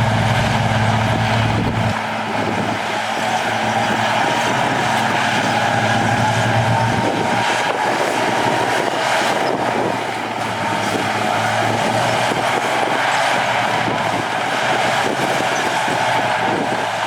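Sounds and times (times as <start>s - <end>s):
heavy machinery engine running: 0.0s - 17.0s.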